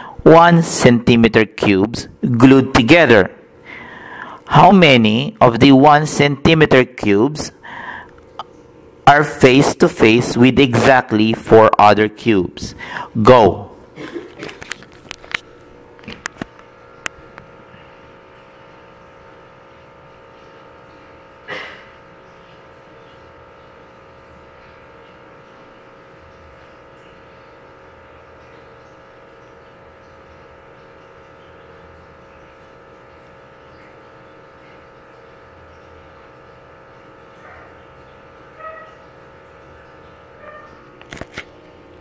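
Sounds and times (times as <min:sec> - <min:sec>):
room tone hum: 0:00.0 - 0:42.0.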